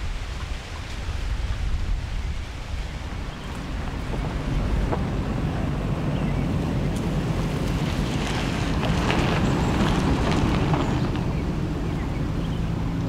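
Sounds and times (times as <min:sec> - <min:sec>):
engine rumble: 0:00.0 - 0:13.0
tyres crackling on dirt track: 0:00.0 - 0:13.0.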